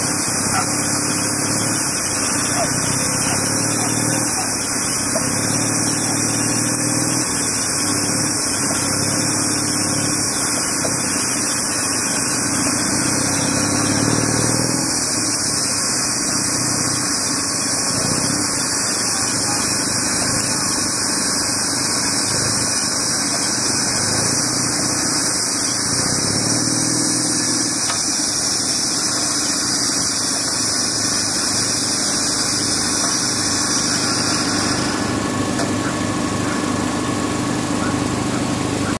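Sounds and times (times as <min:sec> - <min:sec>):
high hiss: 0:00.0 - 0:35.2
small engine humming: 0:00.0 - 0:39.0.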